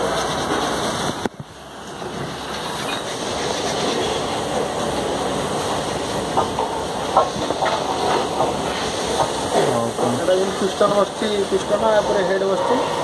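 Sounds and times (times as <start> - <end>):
dense machinery noise: 0.0 - 13.0.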